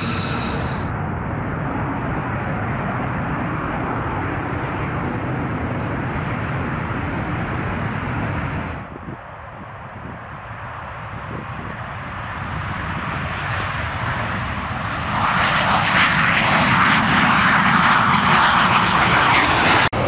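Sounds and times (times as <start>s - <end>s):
jet engine rumble with hiss: 0.0s - 16.0s, 16.6s - 20.0s.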